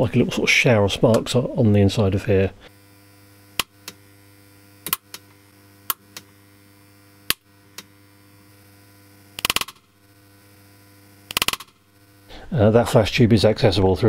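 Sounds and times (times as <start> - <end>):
mains hum: 0.0 - 14.0
electrical arcing crackles: 1.0 - 13.5.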